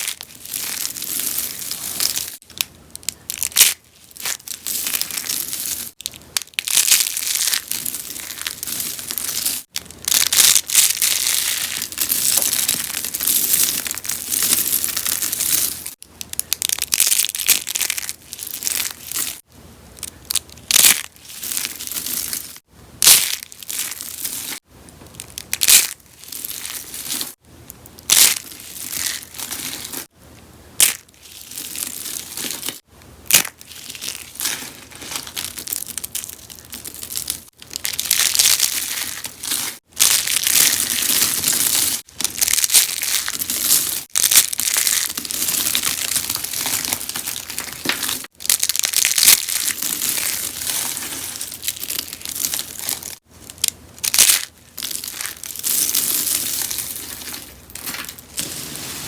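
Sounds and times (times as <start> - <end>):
soap flowers crunching by hand: 0.0 - 30.1, 30.8 - 59.0.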